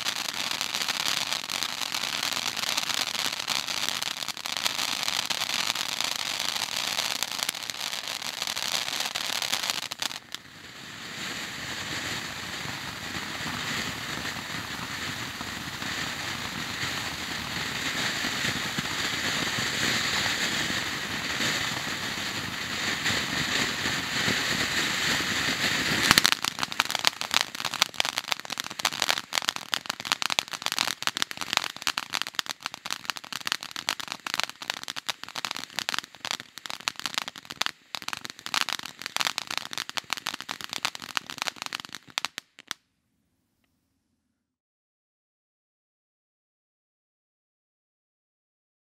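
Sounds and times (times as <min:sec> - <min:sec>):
firework fountain hissing: 0:00.0 - 0:42.8.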